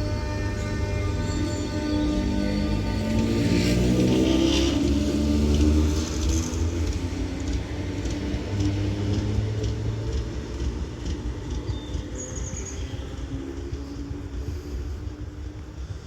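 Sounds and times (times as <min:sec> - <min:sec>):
train engines rumbling: 0:00.0 - 0:16.0.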